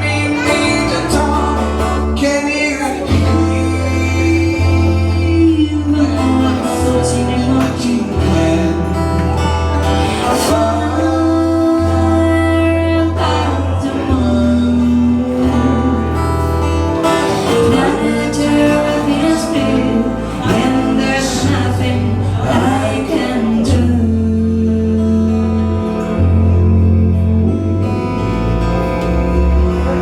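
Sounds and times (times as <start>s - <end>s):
bass guitar: 0.0s - 30.0s
person singing long notes: 0.0s - 30.0s
strummed acoustic guitar: 0.0s - 30.0s.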